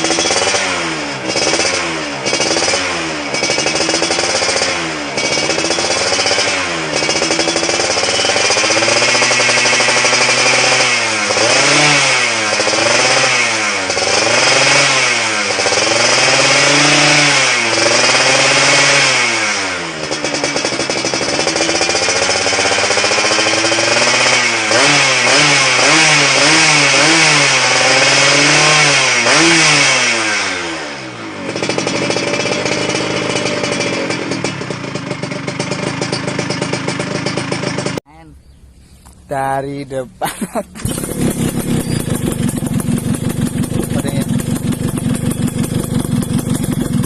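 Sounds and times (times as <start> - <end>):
two-stroke engine revving: 0.0 - 47.0.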